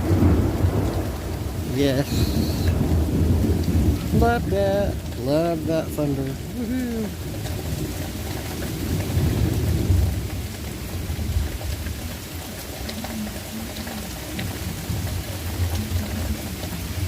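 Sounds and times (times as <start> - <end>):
raindrops hitting nearby: 0.0 - 17.0
steady rain: 0.0 - 17.0
thunder rumbling: 0.0 - 17.0.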